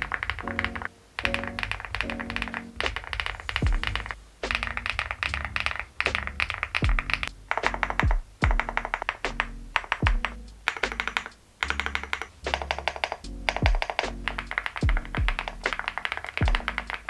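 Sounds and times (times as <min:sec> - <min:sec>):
mechanical keyboard typing: 0:00.0 - 0:17.0
lofi beat with deep kick drum: 0:02.1 - 0:05.5, 0:06.1 - 0:17.0.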